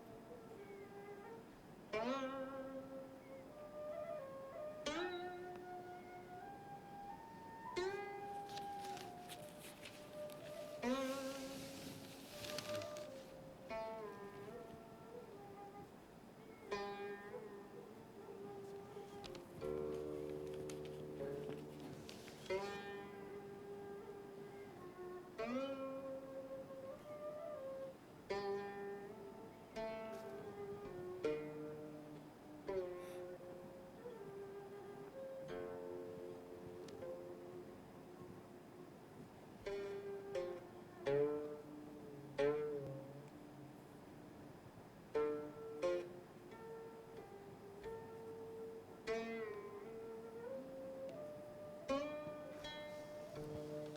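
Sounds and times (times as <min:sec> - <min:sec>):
plucked string instrument notes: 0:00.0 - 0:15.8, 0:16.4 - 0:24.6, 0:28.3 - 0:38.0, 0:39.6 - 0:44.0, 0:45.1 - 0:53.9.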